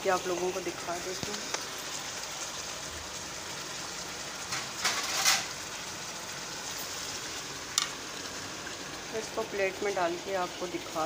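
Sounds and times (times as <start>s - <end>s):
curry sizzling in oil: 0.0s - 11.0s.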